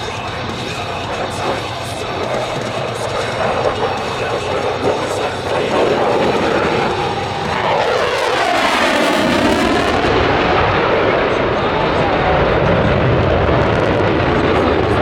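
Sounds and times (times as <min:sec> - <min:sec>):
jet engines roaring: 0:00.0 - 0:15.0
jet flying past whoosh: 0:02.2 - 0:15.0.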